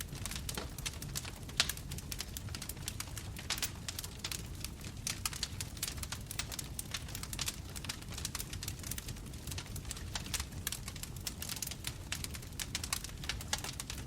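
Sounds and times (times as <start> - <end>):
burning wood popping and snapping: 0.0 - 14.0
loud fire crack: 0.0 - 14.0
low fire rumble: 0.0 - 14.0.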